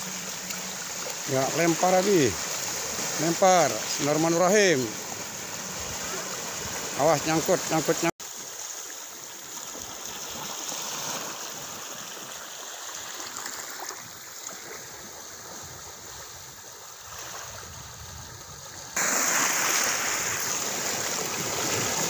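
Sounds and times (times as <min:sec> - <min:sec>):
waves lapping on shore: 0:00.0 - 0:22.0.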